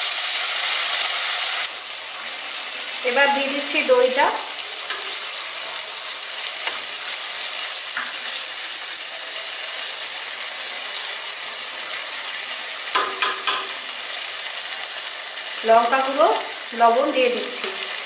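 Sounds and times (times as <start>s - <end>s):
paste sizzling in oil: 0.0s - 18.0s.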